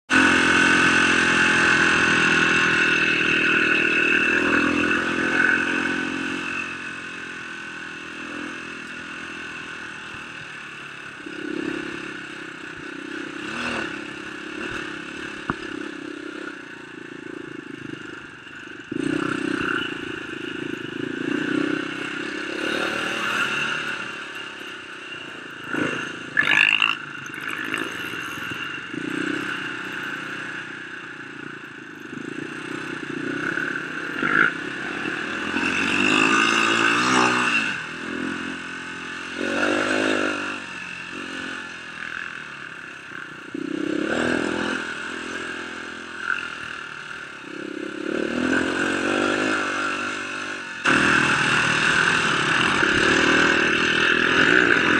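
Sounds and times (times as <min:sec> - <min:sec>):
dirt bike engine revving: 0:00.1 - 0:54.9.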